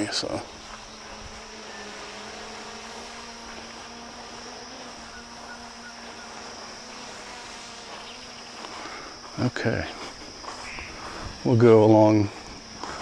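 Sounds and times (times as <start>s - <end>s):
drone propellers buzzing: 0.0s - 13.0s
light wind noise: 0.0s - 13.0s.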